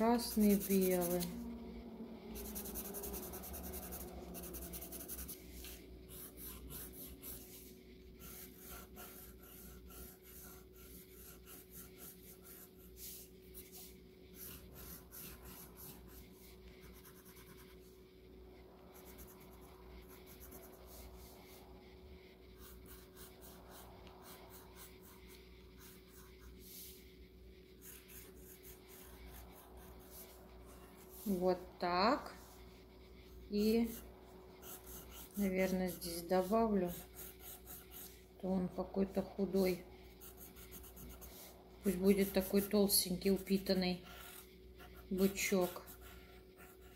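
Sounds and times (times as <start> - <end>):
pencil scratching on paper: 0.0 - 1.5, 2.4 - 18.0, 18.8 - 46.9.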